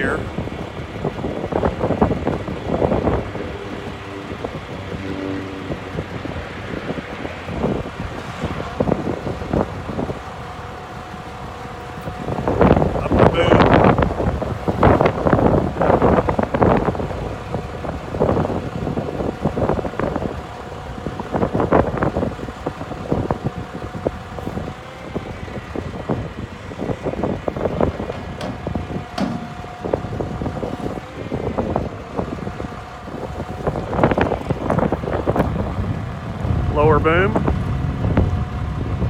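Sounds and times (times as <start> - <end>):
hydraulic pump whine: 0.0 - 39.0
truck engine running: 0.0 - 39.0
wind buffeting microphone: 0.0 - 39.0.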